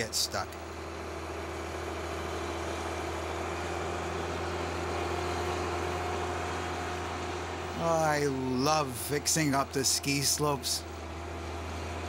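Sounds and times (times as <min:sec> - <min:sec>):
snow groomer engine drone: 0:00.0 - 0:12.0.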